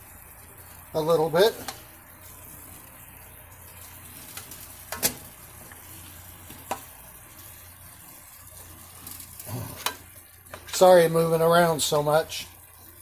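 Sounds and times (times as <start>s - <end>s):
sauce sizzling in a skillet: 0.0s - 13.0s.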